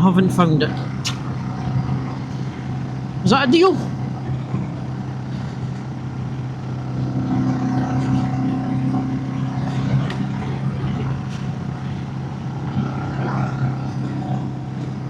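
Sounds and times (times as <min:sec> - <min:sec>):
motorcycle engine climbing hill: 0:00.7 - 0:15.0.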